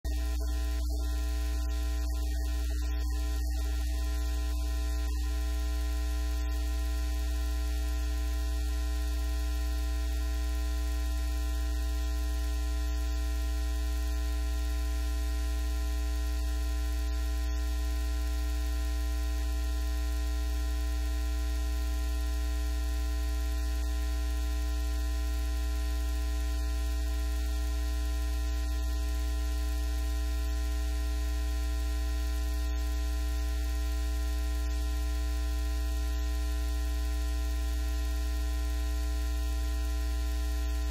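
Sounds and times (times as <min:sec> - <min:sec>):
faint steady tones: 0:00.0 - 0:40.9.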